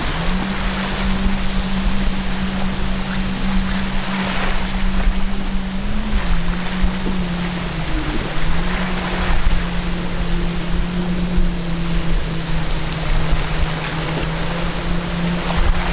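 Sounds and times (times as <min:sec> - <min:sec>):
outboard engine drone: 0:00.0 - 0:15.9
surf: 0:00.0 - 0:15.9
wind on microphone: 0:00.0 - 0:15.9.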